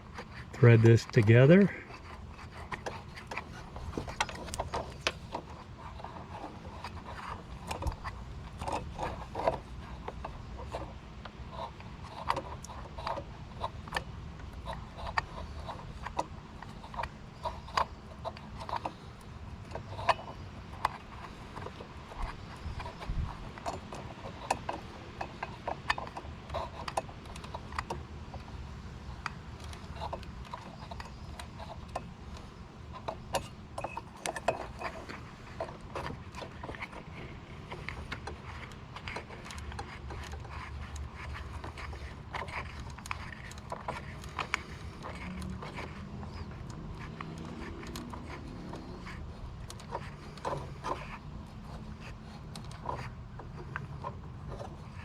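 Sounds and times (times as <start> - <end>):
metal parts clicking and tapping: 0.0 - 55.0.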